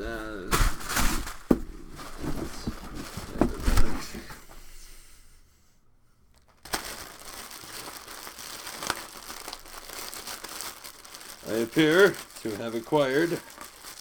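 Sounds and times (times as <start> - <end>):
packaging crinkling: 0.0 - 4.3, 6.3 - 14.0.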